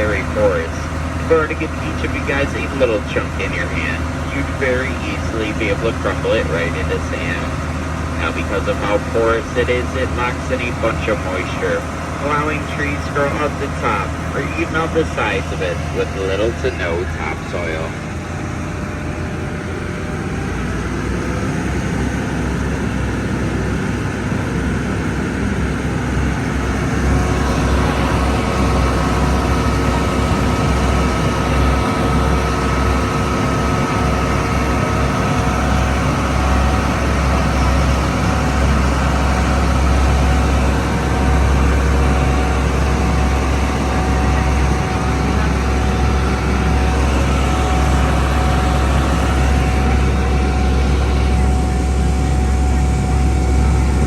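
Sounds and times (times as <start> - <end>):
boat engine rumbling: 0.0 - 54.0
steady engine whine: 0.0 - 54.0.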